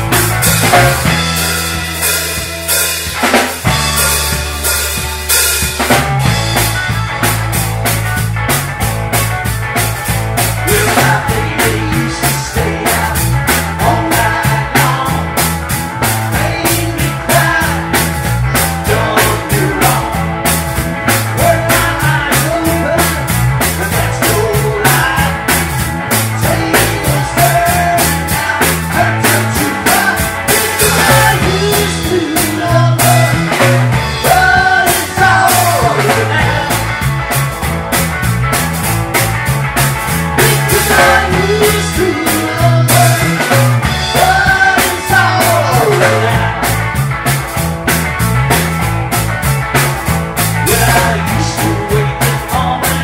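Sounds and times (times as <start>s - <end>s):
rock band music: 0.0s - 53.0s.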